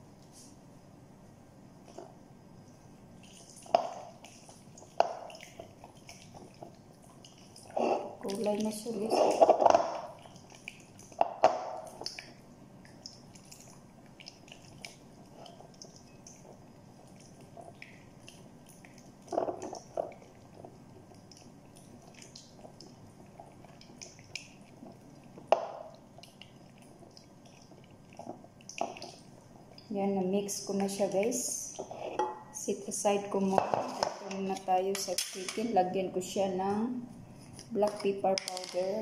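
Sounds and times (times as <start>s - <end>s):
wet squelching stirring: 1.8s - 35.8s.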